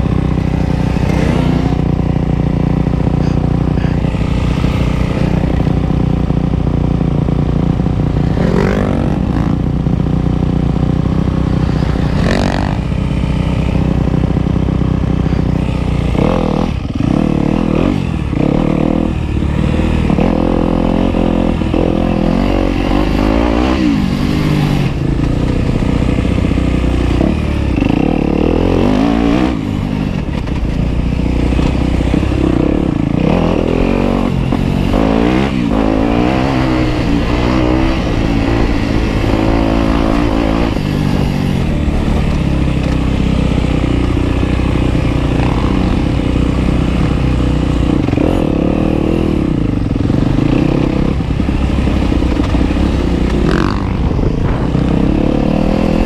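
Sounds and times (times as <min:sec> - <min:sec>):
off-road vehicle engine revving: 0:00.0 - 0:07.1, 0:07.7 - 0:56.0.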